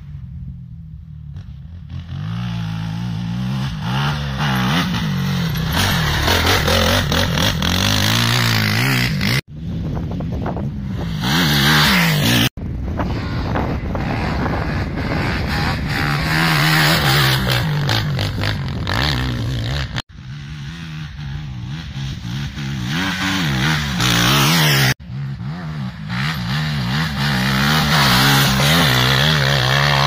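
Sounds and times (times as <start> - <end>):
quad engine revving hard: 2.1 - 9.4, 11.0 - 12.5, 13.9 - 30.0.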